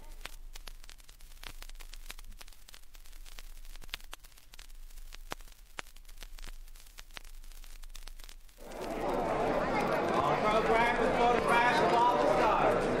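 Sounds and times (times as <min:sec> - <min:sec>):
faint hiss: 0:00.0 - 0:11.5
vinyl record crackles and pops: 0:00.0 - 0:13.0.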